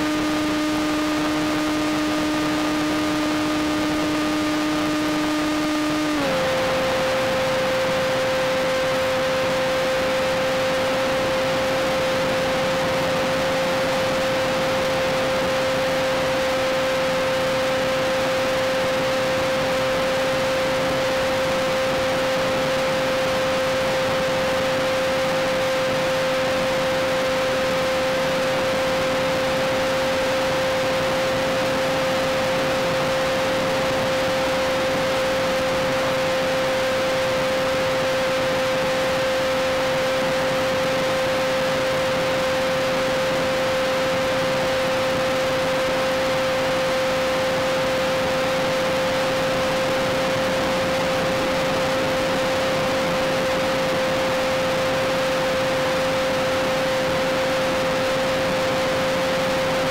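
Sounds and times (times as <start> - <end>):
electric motor and propeller whining: 0.0 - 59.9.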